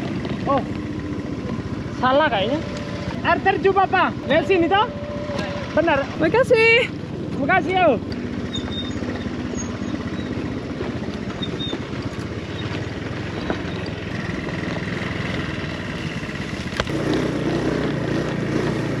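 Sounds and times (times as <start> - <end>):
motor scooter engine running: 0.0 - 19.0
road noise: 0.0 - 19.0.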